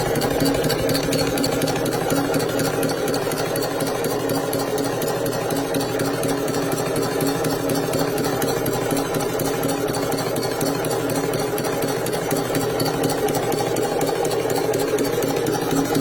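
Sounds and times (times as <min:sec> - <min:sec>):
fast ticking of stitching mechanism: 0:00.0 - 0:16.0
sewing machine motor hum: 0:00.0 - 0:16.0.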